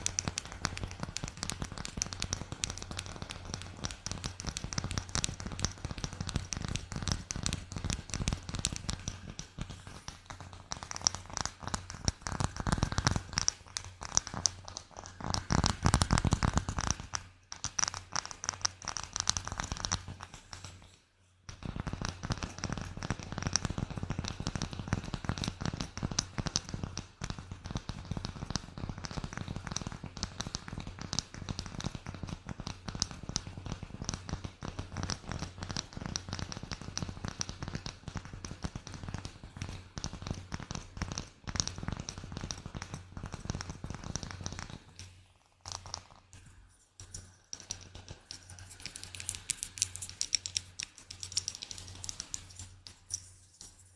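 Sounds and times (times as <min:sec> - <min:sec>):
small clicks taps and crackles: 0:00.0 - 0:53.9.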